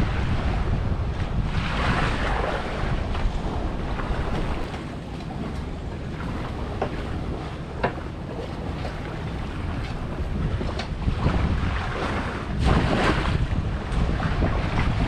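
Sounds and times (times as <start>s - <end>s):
surf on a beach: 0.0s - 15.0s
wind buffeting microphone: 0.0s - 15.0s.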